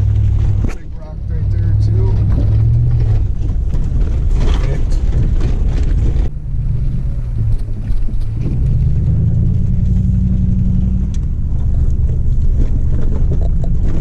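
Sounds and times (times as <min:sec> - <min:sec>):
vehicle engine and road rumble: 0:00.0 - 0:14.0.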